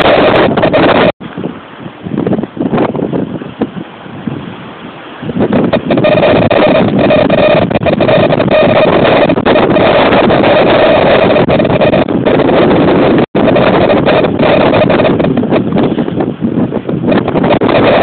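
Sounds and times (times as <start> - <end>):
wind blasting microphone: 0.0 - 18.0.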